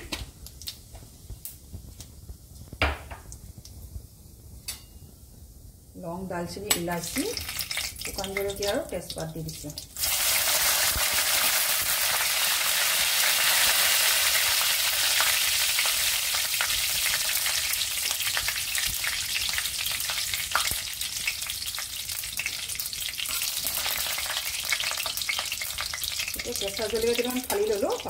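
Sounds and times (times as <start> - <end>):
oil crackles: 0.0 - 3.9, 7.0 - 28.0
spices sizzling in hot oil: 0.1 - 28.0.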